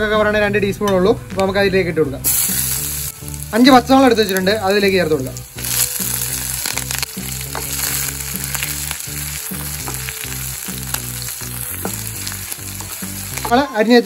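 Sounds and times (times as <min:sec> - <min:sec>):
chillies sizzling in hot oil: 0:02.2 - 0:14.0.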